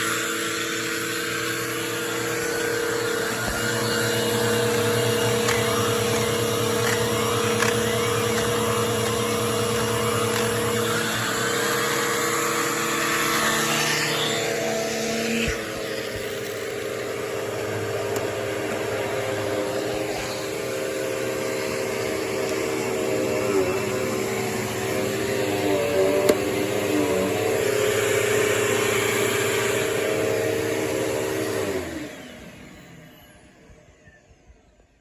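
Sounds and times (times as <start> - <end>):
vacuum cleaner running: 0.0 - 35.0.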